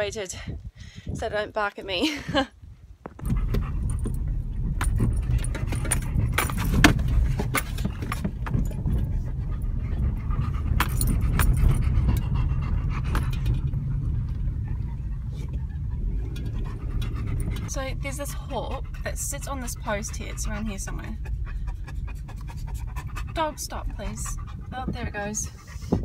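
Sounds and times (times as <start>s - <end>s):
car engine and tyres rumbling: 2.9s - 26.0s.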